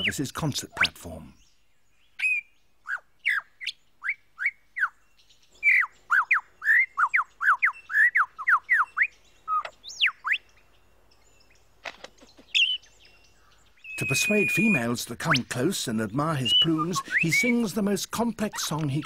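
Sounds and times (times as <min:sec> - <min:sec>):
lyrebird whistled song: 0:00.0 - 0:11.6, 0:12.4 - 0:19.0.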